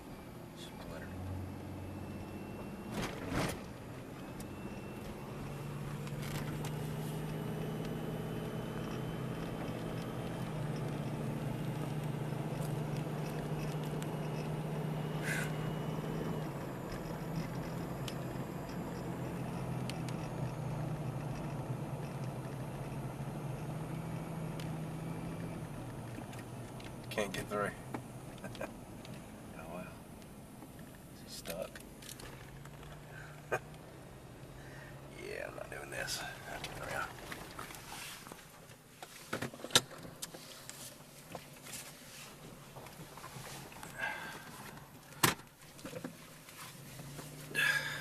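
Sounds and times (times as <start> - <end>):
car engine and road noise: 0.0 - 48.0.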